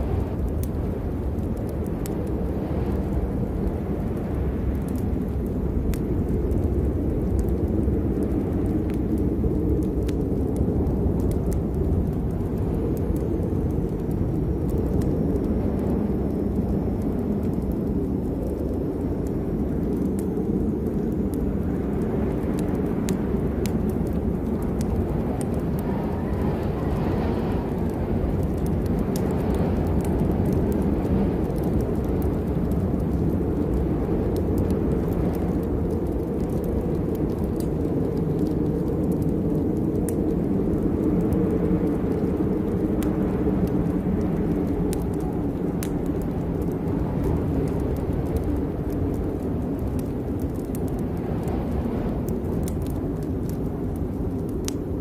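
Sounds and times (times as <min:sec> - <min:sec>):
low rumble: 0:00.0 - 0:55.0
steady rain: 0:00.0 - 0:55.0.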